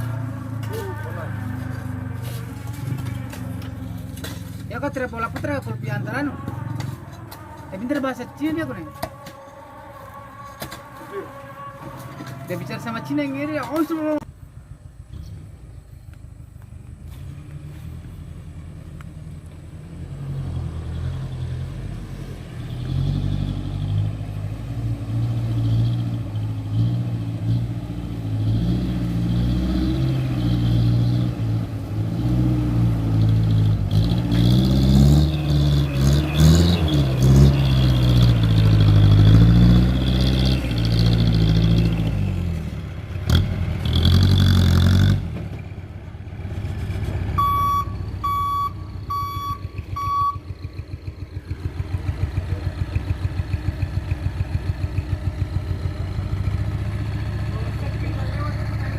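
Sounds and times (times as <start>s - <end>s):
diesel truck engine revving: 0.0s - 8.9s, 11.1s - 58.9s.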